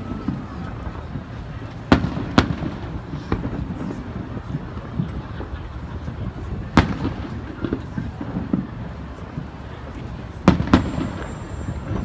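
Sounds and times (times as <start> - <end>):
fireworks booming: 0.0 - 12.0
low rumble of fireworks display: 0.0 - 12.0.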